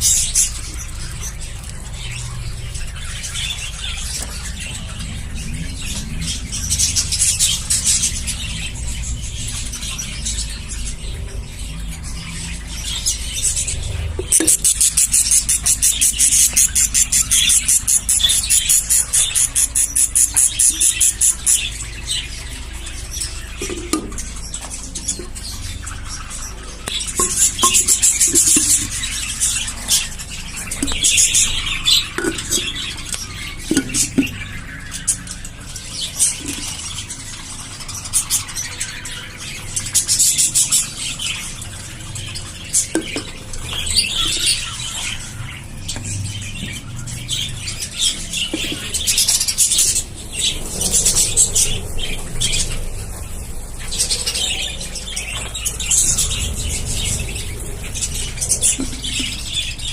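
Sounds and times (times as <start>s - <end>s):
budgerigars chattering and squeaking: 0.0s - 59.9s.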